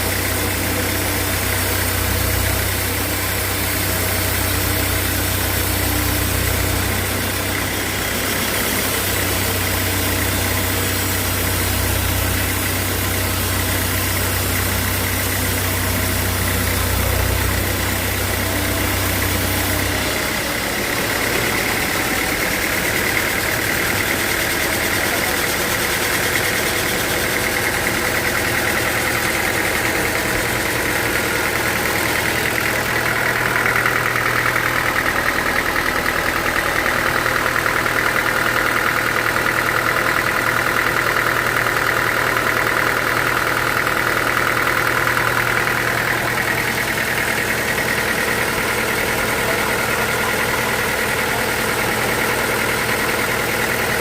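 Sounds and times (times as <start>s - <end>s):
sawmill machinery motor drone: 0.0s - 54.0s.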